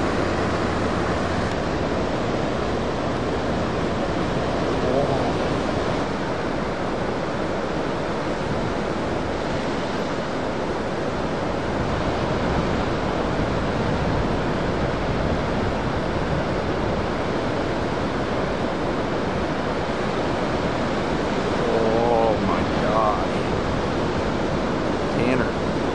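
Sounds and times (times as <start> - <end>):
heavy ocean surf breaking: 0.0 - 25.9.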